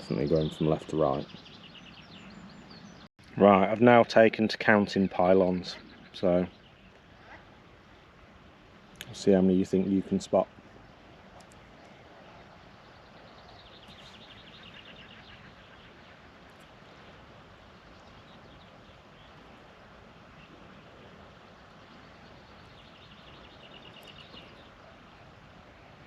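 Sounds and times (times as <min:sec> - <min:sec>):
faint outdoor background hiss: 0:00.0 - 0:26.0.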